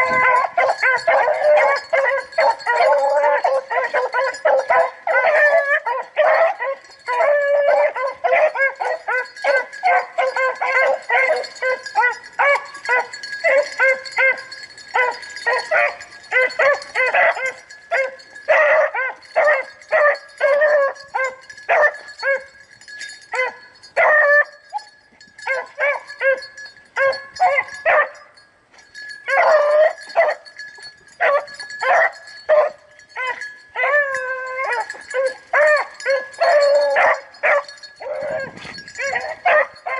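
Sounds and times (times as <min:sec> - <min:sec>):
hounds baying and yelping: 0:00.0 - 0:39.9.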